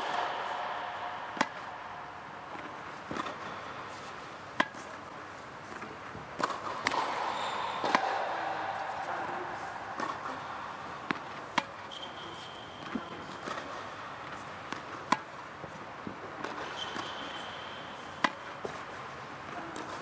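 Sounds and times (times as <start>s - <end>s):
tennis ball struck by racket: 0.0s - 5.0s, 5.6s - 15.4s, 16.4s - 19.0s
tennis ball bouncing on court: 0.0s - 19.1s, 19.7s - 20.0s
steady background hum: 0.0s - 20.0s.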